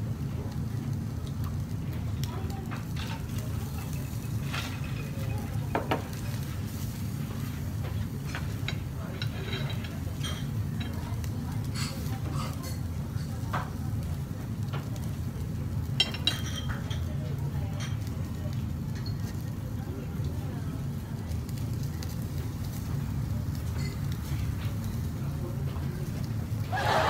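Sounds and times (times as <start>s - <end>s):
meat sizzling on grill: 0.0s - 27.0s
tongs clicking on grill and dishes: 0.4s - 20.4s, 21.2s - 26.4s.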